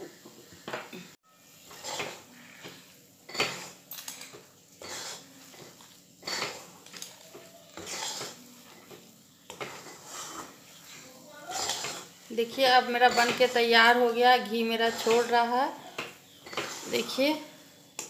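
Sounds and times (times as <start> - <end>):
spoon scraping a metal pan: 1.6 - 17.5.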